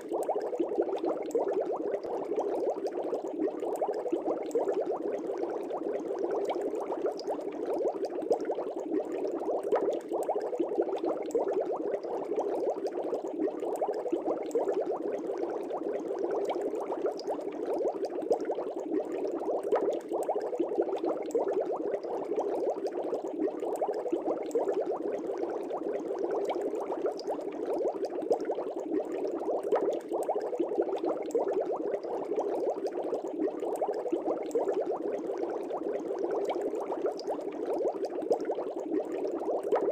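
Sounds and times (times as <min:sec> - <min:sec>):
aquarium bubbles: 0:00.0 - 0:39.9.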